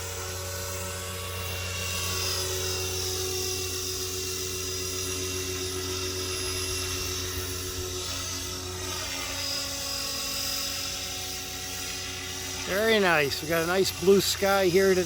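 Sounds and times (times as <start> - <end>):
helicopter motor whine: 0.0 - 15.0
rotor hum: 0.0 - 15.0.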